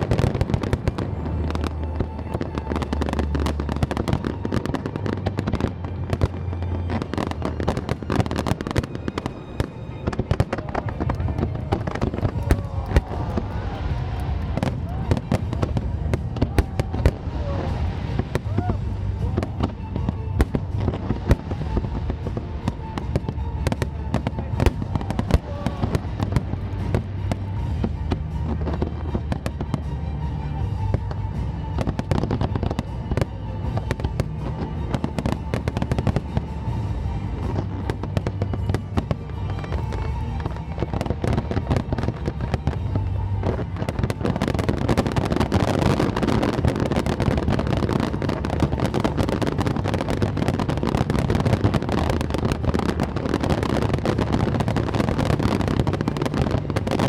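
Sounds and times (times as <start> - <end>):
fireworks bursting with bangs: 0.0 - 57.0
fireworks crackling hiss: 0.0 - 57.0
music over loudspeakers: 0.0 - 57.0.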